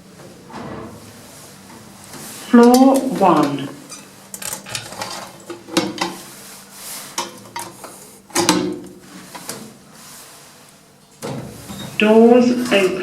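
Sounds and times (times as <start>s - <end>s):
lift machinery clunking and rattling: 0.0s - 13.0s.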